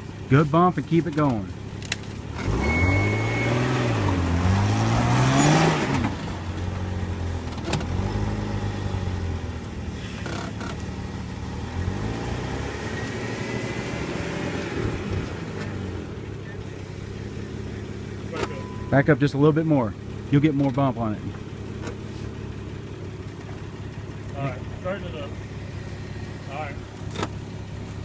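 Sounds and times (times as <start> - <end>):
engine revving under load: 0.0 - 28.0.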